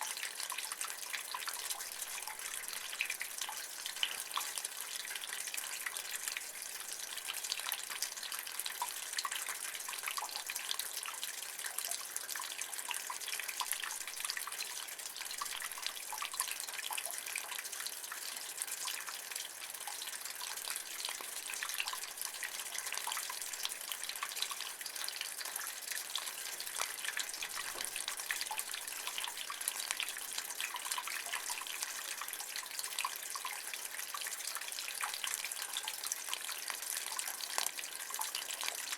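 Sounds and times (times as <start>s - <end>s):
rainwater trickling from gutter: 0.0s - 38.9s.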